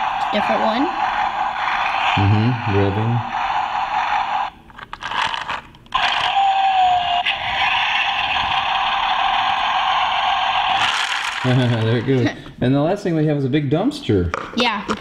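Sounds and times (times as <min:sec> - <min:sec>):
toy engine revving sound effect: 0:00.0 - 0:12.2.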